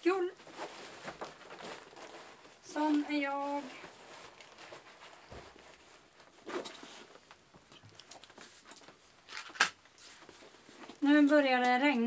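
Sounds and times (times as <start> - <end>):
rustling noise: 0.0 - 12.0.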